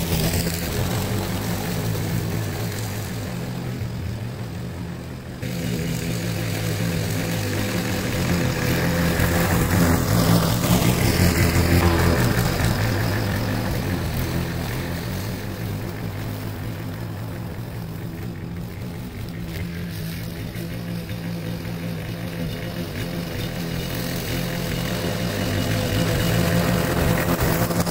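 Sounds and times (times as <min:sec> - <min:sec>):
lawn mower engine cutting grass: 0:00.0 - 0:27.9.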